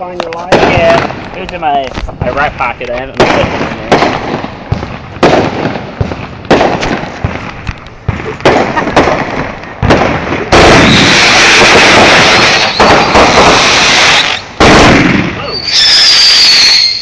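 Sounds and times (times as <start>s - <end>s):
dense firework crackling noise: 0.0s - 17.0s
fireworks bangs: 0.0s - 17.0s.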